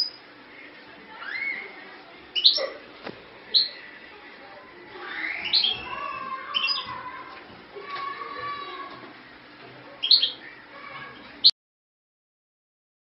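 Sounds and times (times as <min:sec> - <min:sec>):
small birds chirping: 0:00.0 - 0:09.0, 0:09.9 - 0:11.5.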